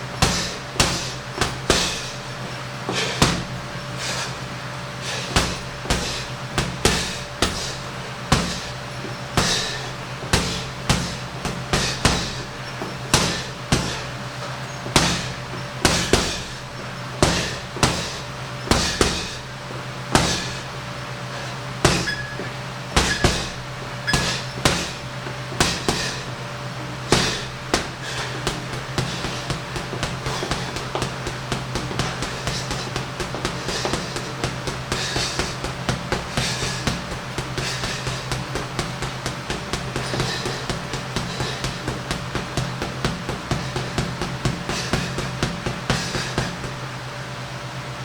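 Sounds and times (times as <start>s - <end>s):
punches thudding on punching bag: 0.0s - 47.0s.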